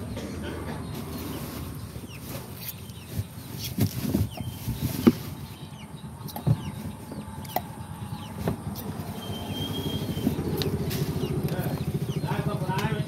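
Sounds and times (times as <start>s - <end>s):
faint bird chirps: 0.7s - 12.6s.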